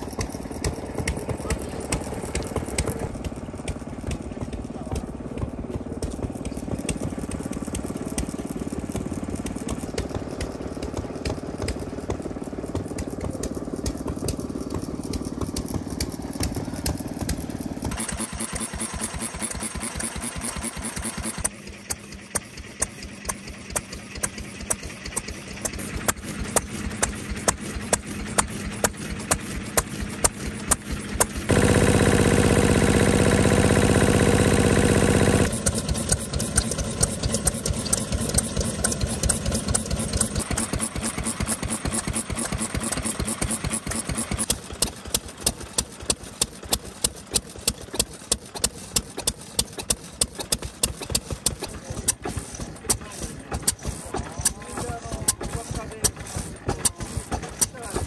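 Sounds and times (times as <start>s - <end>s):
stationary engine firing knocks: 0.0s - 58.0s
steady engine running: 0.0s - 58.0s.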